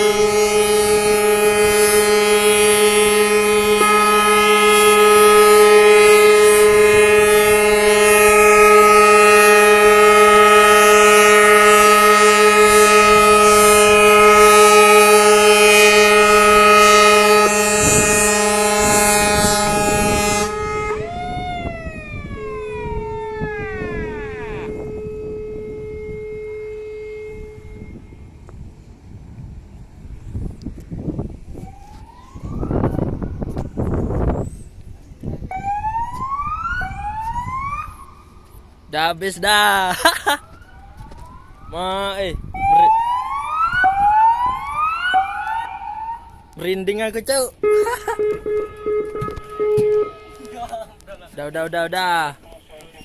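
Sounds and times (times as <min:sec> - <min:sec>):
ship's siren blast: 0:00.0 - 0:29.2, 0:31.2 - 0:34.7, 0:35.5 - 0:38.8, 0:39.6 - 0:50.8.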